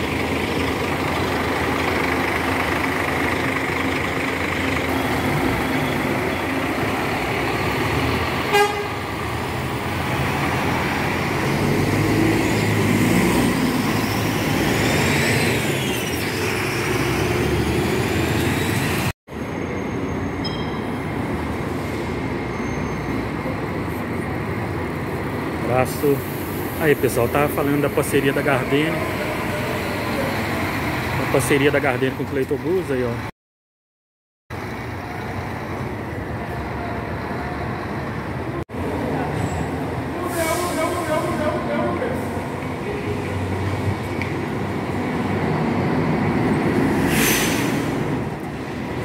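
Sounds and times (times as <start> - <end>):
bus diesel engines running: 0.0 - 33.3, 34.5 - 49.0
street traffic: 0.0 - 33.4, 34.5 - 49.0.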